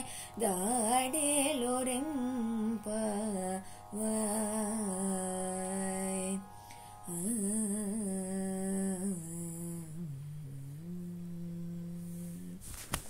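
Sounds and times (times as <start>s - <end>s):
person humming: 0.0s - 6.4s, 7.0s - 12.6s.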